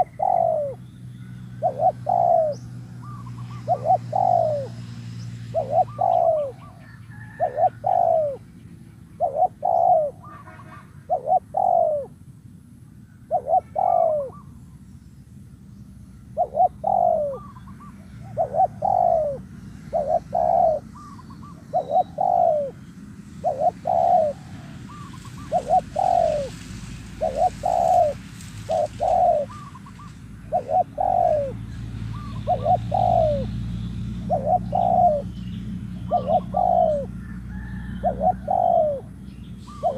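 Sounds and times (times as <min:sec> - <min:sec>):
dove cooing: 0:00.0 - 0:08.5, 0:09.1 - 0:12.2, 0:13.2 - 0:14.5, 0:16.3 - 0:39.9.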